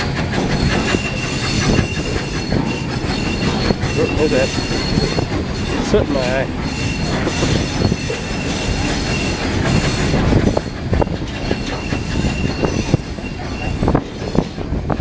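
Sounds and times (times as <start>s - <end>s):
high wheel squeal: 0.0s - 14.7s
clacks at rail joints: 0.0s - 15.0s
wheels rumbling on rails: 0.0s - 15.0s.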